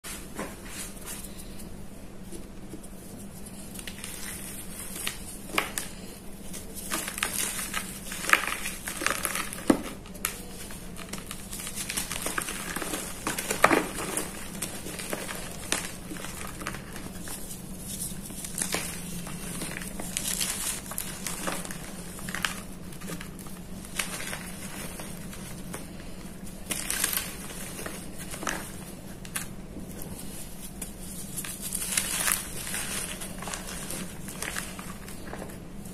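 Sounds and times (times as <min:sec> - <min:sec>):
hands crushing chalk blocks: 0:02.7 - 0:35.7.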